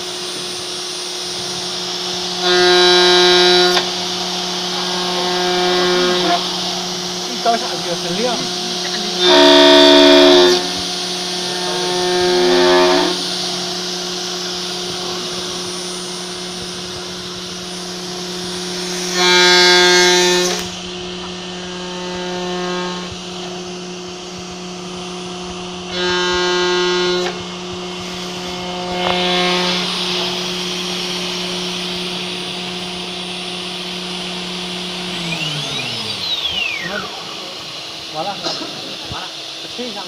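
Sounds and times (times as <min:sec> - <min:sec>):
cutter ringing squeal on metal: 0:00.0 - 0:39.5
router spindle whine: 0:00.0 - 0:40.0.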